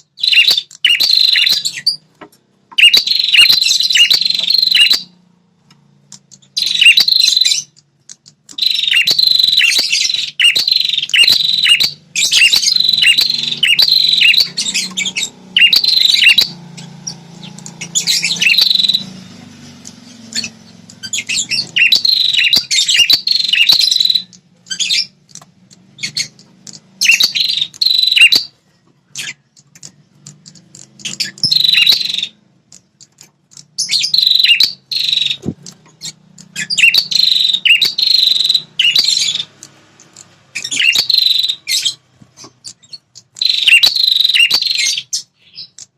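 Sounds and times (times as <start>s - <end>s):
bird chirping rapidly: 0.0s - 45.9s.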